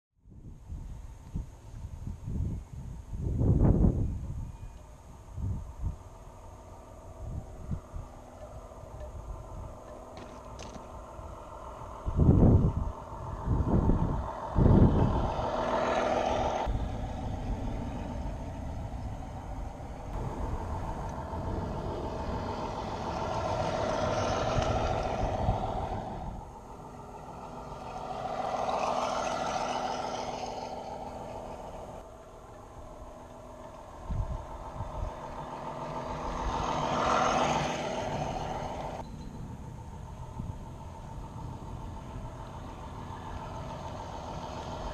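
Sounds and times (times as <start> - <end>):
wheels rumbling on rails: 0.3 - 44.9
model railcar humming whine: 0.7 - 44.9.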